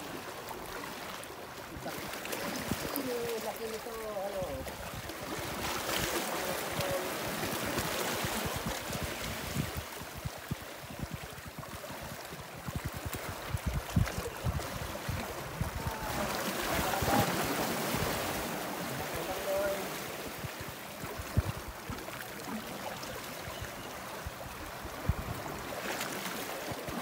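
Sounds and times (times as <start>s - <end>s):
waves washing on shore: 0.0s - 27.0s.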